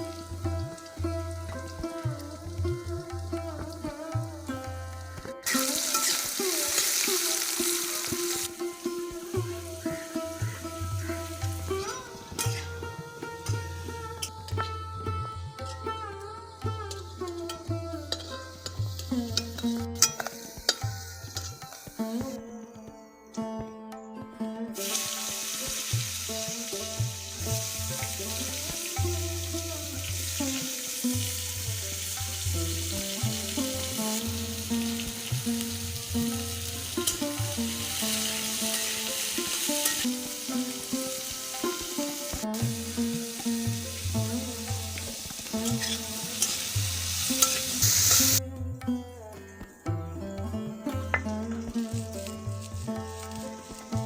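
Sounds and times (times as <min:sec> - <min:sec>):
food sizzling in oil: 0:00.0 - 0:14.6, 0:16.5 - 0:22.4, 0:24.8 - 0:48.4, 0:51.2 - 0:54.0.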